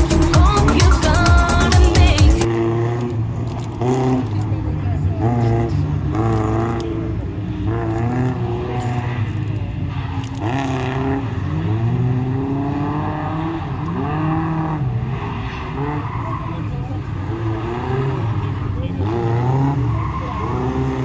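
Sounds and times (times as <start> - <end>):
car engine revving hard: 2.4 - 9.4, 10.1 - 21.0.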